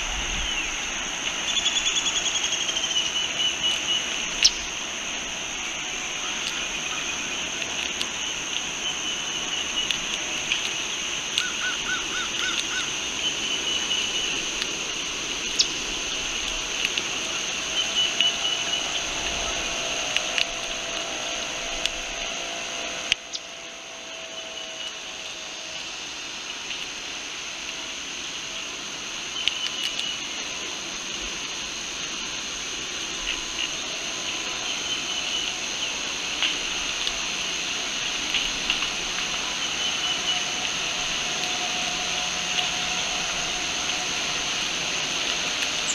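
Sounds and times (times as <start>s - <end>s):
insect chorus high buzzing: 0.0s - 45.9s.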